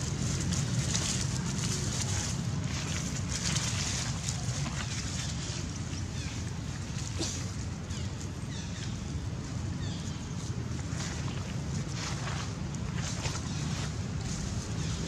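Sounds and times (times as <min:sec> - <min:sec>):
dry leaves rustling: 0:00.0 - 0:15.0
wind rumbling on microphone: 0:00.0 - 0:15.0.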